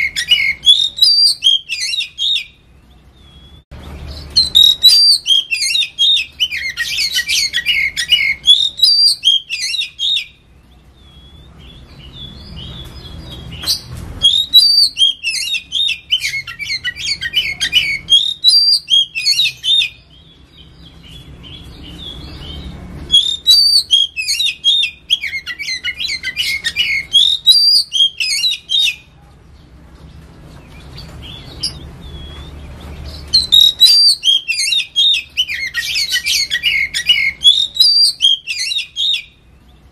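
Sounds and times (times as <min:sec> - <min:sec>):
bird singing rapid warbling notes: 0:00.0 - 0:39.9.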